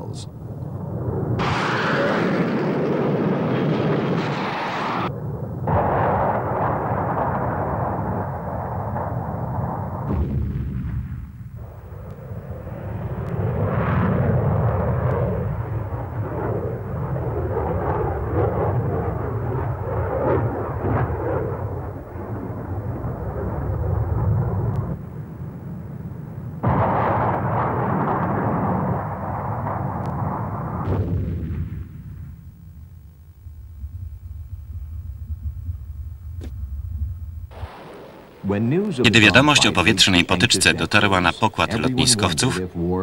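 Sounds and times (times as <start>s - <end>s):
fighter jet engines roaring: 0.0s - 10.2s, 11.6s - 31.3s, 33.9s - 43.0s.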